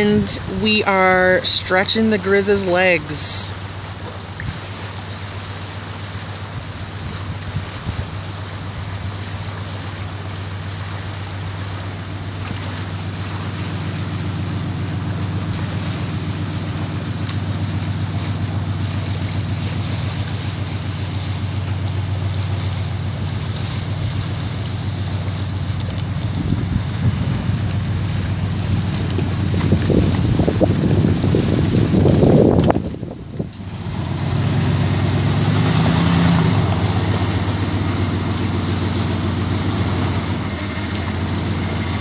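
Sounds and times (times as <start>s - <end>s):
pickup truck engine running: 2.5s - 42.0s.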